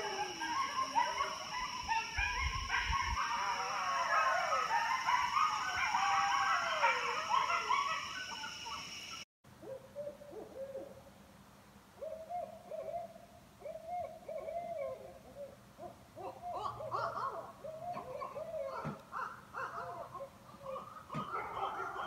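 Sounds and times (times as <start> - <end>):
owls hooting: 0.0 - 11.0, 12.0 - 22.0.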